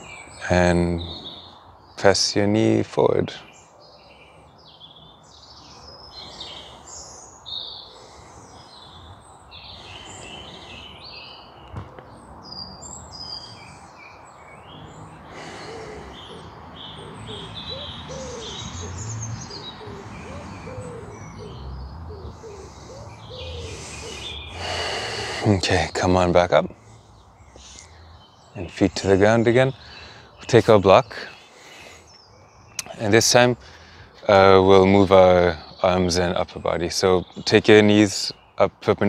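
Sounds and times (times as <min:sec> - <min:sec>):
birds chirping and whistling: 0:00.0 - 0:39.0.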